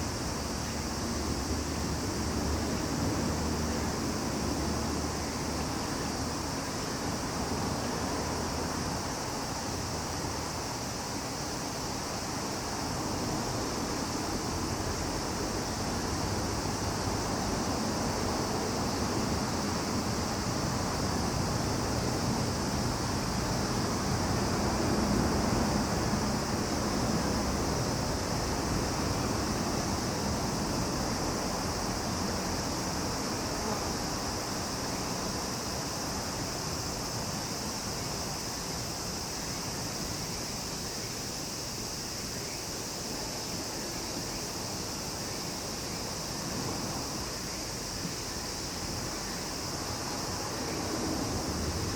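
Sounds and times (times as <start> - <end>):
insects droning: 0.0 - 51.9.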